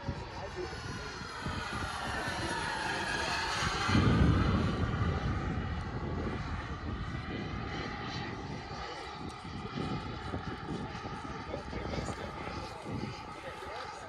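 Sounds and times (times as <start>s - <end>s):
model jet turbine whine: 0.0s - 14.0s.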